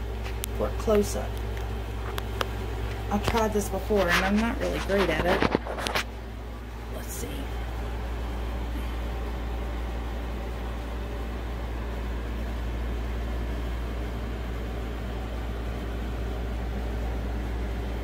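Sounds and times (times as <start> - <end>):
appliance motor hum and hiss: 0.0 - 18.0.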